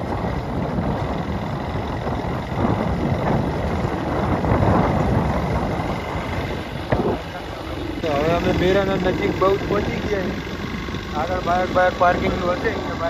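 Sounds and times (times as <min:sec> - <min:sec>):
motorcycle engine rumbling: 0:00.0 - 0:13.0
wind buffeting microphone: 0:00.0 - 0:13.0.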